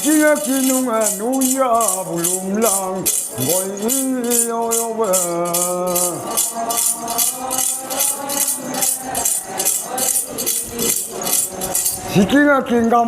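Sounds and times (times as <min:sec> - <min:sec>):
group of voices singing: 0:00.0 - 0:12.8
rhythmic metallic jingling: 0:00.0 - 0:13.0.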